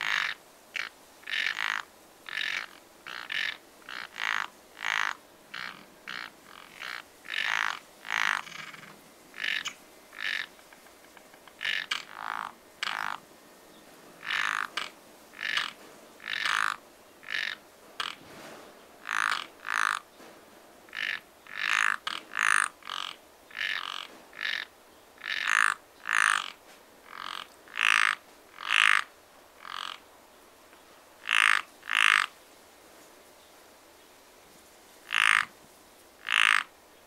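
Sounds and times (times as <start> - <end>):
frogs croaking: 0.0 - 13.3, 14.2 - 18.2, 19.0 - 20.1, 20.9 - 30.2, 31.2 - 32.4, 35.0 - 35.6, 36.2 - 36.8.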